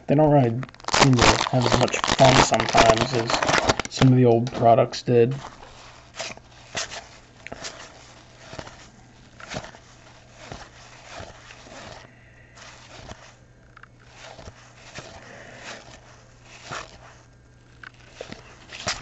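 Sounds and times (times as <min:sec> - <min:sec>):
wrapper crinkling: 0:00.3 - 0:13.4, 0:14.0 - 0:19.0
cards rubbing and flicking: 0:00.8 - 0:13.4, 0:14.0 - 0:19.0.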